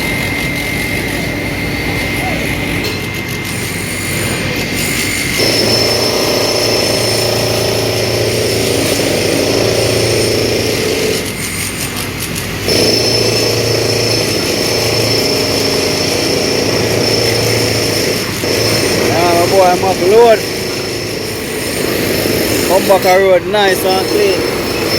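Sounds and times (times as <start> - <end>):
construction vehicle engine running: 0.0 - 24.9
high whine: 0.0 - 24.9.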